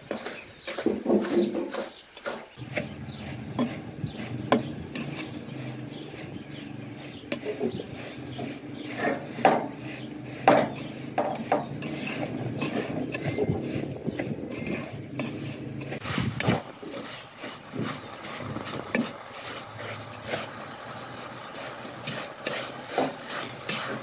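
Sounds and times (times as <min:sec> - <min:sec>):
wooden spoon scraping a pot: 0:00.0 - 0:24.0
steady low hum: 0:02.6 - 0:24.0.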